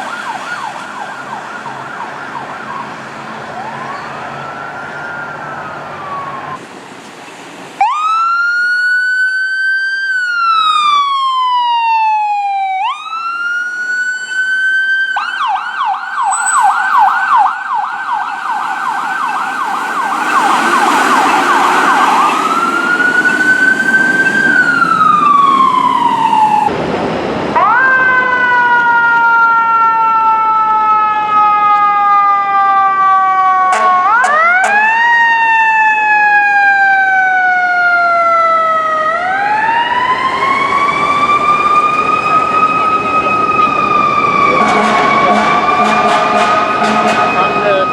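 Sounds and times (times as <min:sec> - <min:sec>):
electronic sirens wailing and yelping: 0:00.0 - 0:06.6, 0:07.8 - 0:26.7, 0:27.6 - 0:47.9.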